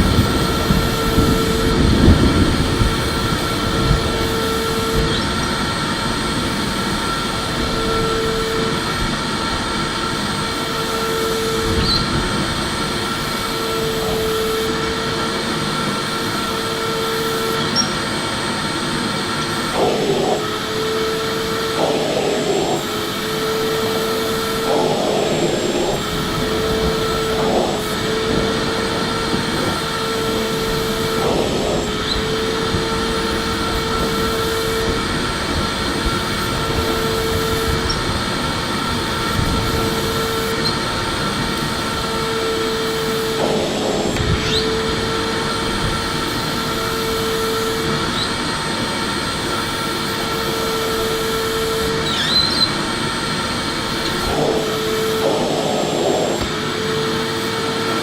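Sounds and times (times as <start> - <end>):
humming tone: 0.0 - 58.0
vacuum cleaner running: 0.0 - 58.0.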